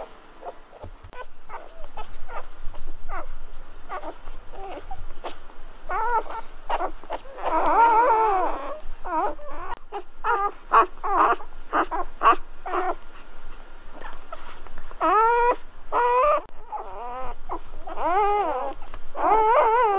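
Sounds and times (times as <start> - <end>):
puppies squeaking and whimpering: 0.0 - 3.3, 3.9 - 13.3, 14.0 - 19.9.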